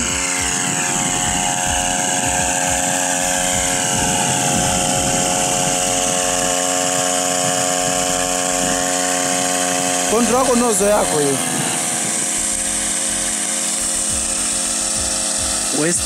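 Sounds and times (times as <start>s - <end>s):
backpack sprayer engine running: 0.0s - 16.0s.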